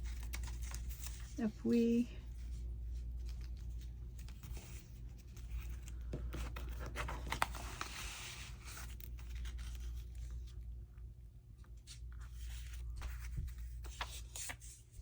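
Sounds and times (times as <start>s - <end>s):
paper rustling and shuffling: 0.0s - 15.0s.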